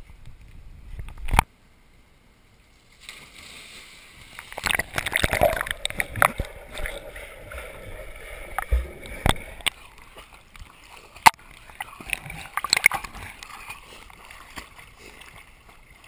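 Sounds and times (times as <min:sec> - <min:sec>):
water splashing and sloshing: 0:02.9 - 0:16.0.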